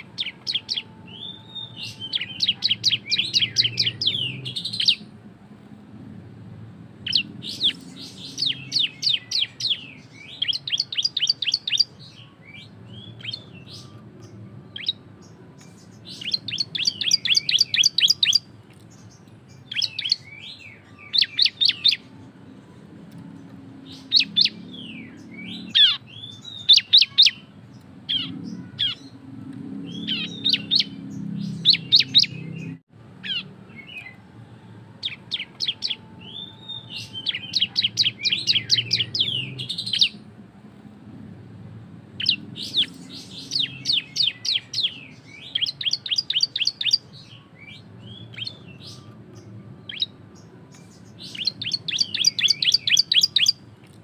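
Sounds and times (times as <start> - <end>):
bird singing sharp chirps: 0.0 - 5.1, 7.0 - 22.2, 23.7 - 34.2, 35.0 - 40.2, 42.2 - 53.6.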